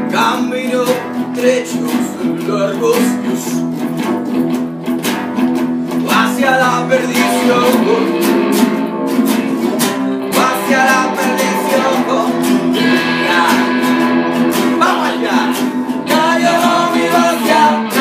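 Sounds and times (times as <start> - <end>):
acoustic guitars strumming: 0.0 - 18.0
electric guitar through amplifier: 0.0 - 18.0.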